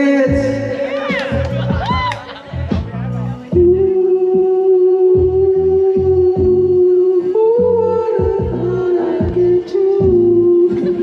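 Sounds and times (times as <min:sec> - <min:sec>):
karaoke backing track: 0:00.0 - 0:11.0.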